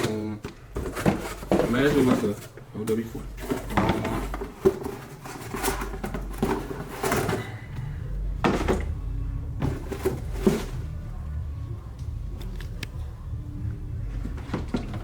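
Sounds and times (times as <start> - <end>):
plastic bottles clunking: 0.0 - 11.3, 14.1 - 15.0
low steady hum: 0.0 - 15.0.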